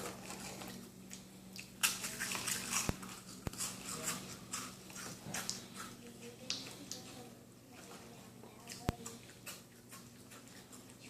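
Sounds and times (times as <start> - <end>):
wet chewing and smacking: 0.0 - 7.2, 7.8 - 11.0.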